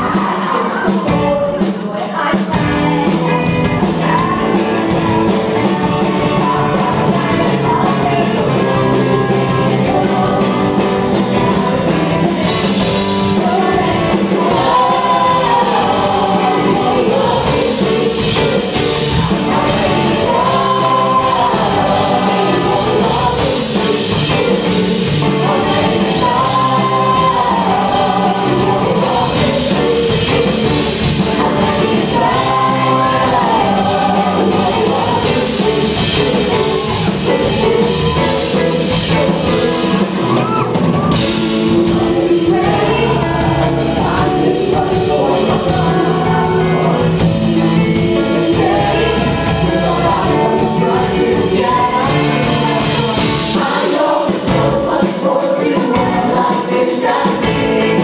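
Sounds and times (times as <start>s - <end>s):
live pop-rock band playing: 0.0s - 58.0s
man and woman singing: 0.0s - 58.0s.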